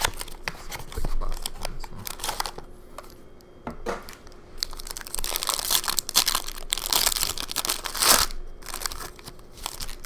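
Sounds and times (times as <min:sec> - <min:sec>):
foil wrapper crinkling: 0:00.0 - 0:02.7, 0:04.6 - 0:10.0.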